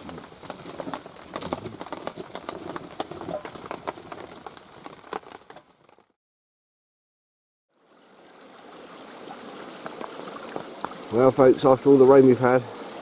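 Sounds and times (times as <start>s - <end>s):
heavy rain on a tarp: 0.0s - 6.2s, 8.0s - 13.0s.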